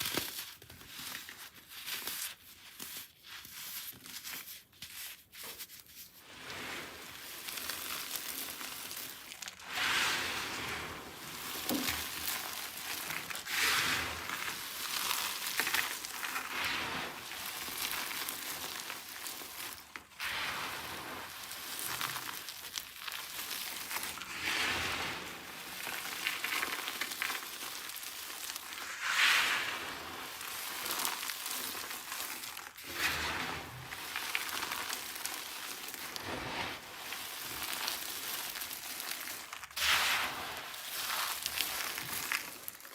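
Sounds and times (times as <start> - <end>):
dry soap crunching: 0.0 - 6.2, 7.0 - 42.9.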